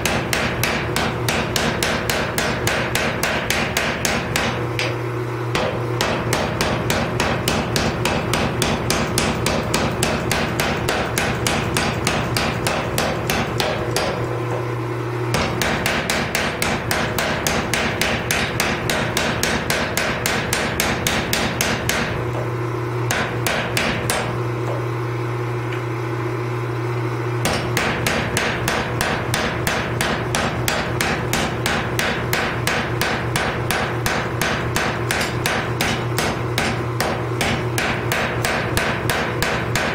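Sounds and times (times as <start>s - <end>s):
power hammer pounding metal: 0.0s - 14.5s, 15.3s - 22.5s, 23.1s - 24.8s, 27.4s - 39.9s.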